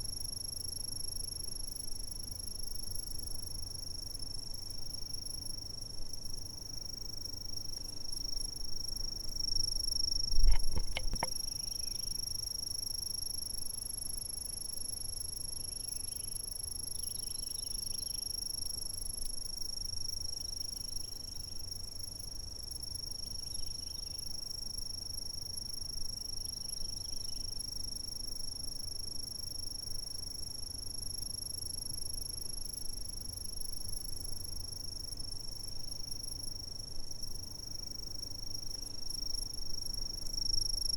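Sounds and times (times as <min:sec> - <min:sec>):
faint insect chirps: 0:00.0 - 0:40.9
insects trilling: 0:00.1 - 0:40.9.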